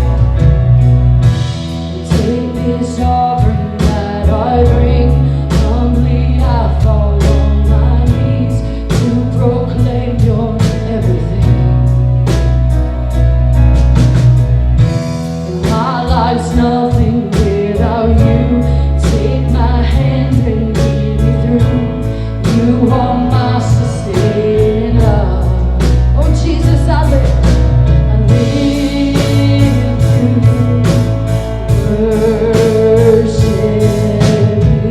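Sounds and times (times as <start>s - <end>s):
live band playing: 0.0s - 34.9s
steady drum beat: 0.0s - 34.9s
person singing: 1.5s - 12.3s, 15.5s - 34.9s.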